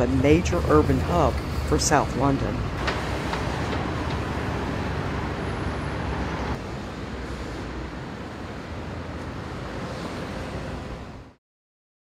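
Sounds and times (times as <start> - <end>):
road traffic rumble: 0.0 - 11.4.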